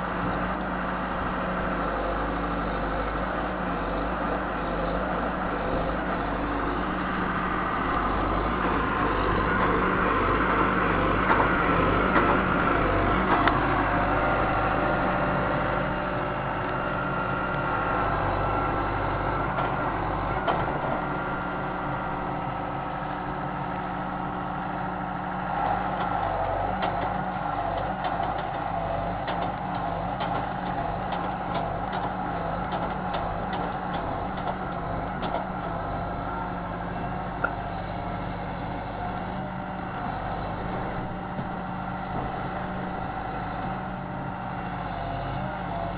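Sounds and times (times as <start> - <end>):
excavator diesel engine running: 0.0 - 45.9
hydraulic whine: 0.0 - 45.9.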